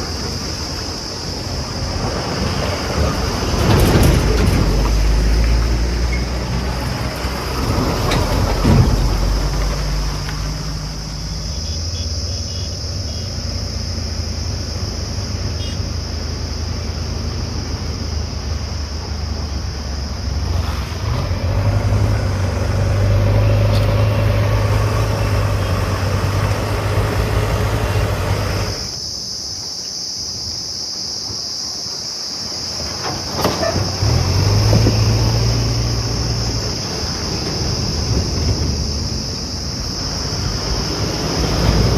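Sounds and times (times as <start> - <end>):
diesel engine under load: 0.0 - 29.0, 32.7 - 41.9.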